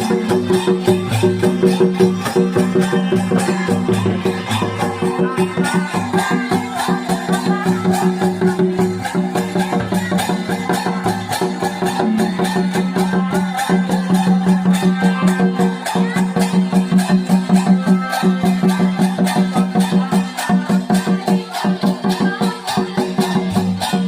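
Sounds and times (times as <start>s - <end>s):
rattling percussion beat: 0.0s - 24.0s.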